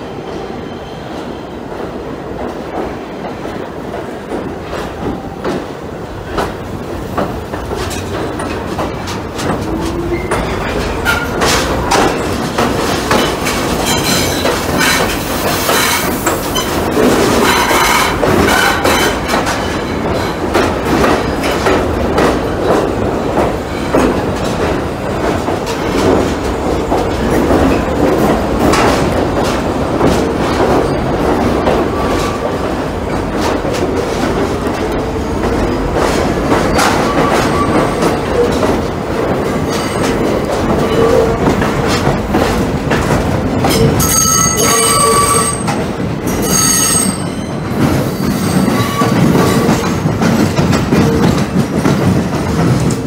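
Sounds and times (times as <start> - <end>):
subway train wheels rumbling: 0.0 - 53.0
clicking over rail joints: 2.4 - 46.4, 48.6 - 53.0.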